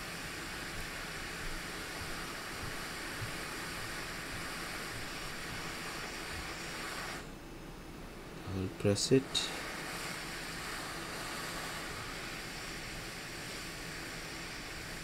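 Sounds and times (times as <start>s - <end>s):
hot air station hissing: 0.0s - 7.4s, 8.5s - 15.0s.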